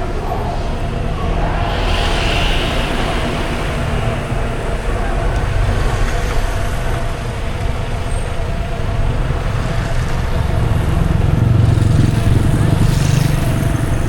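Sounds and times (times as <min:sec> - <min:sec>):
car rumble: 0:00.0 - 0:14.0
passing vehicles: 0:00.0 - 0:14.0.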